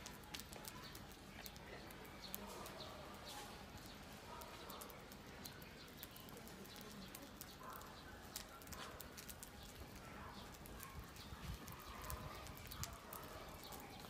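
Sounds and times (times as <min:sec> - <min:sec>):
burning matchsticks crackling: 0:00.0 - 0:14.0.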